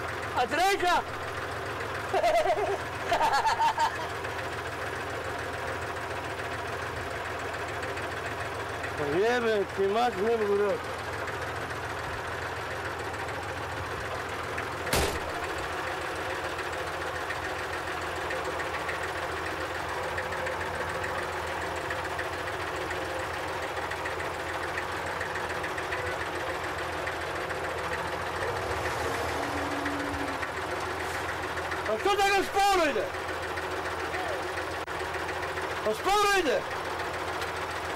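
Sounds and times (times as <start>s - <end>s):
small tractor engine running: 0.0s - 37.9s.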